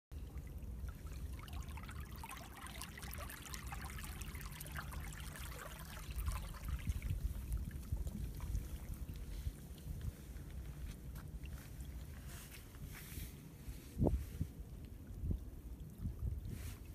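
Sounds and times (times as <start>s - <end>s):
low water rumble: 0.1s - 16.9s
seawater trickling between rocks: 0.2s - 16.9s.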